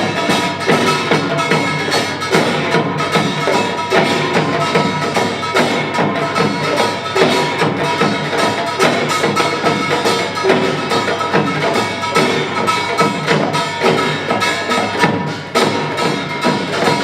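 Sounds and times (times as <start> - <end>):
percussion ensemble of drums and gongs: 0.0 - 17.0.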